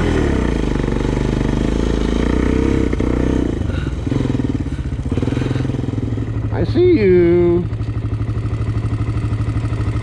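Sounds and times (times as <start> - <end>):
quad bike engine revving and idling: 0.0 - 10.0.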